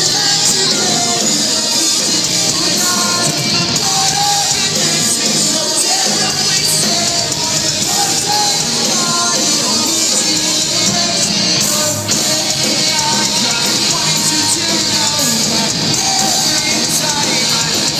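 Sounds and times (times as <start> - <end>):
bass guitar: 0.0 - 17.9
drums: 0.0 - 17.9
electric guitars: 0.0 - 17.9
person singing lead vocal: 0.0 - 17.9.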